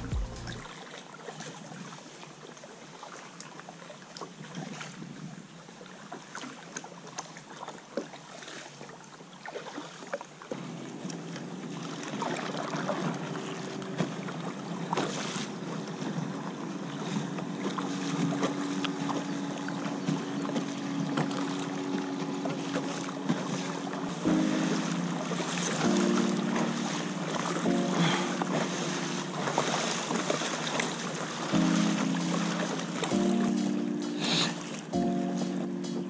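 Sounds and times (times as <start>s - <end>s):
water lapping and dripping: 0.0s - 35.6s
paddle splashes: 5.9s - 36.0s.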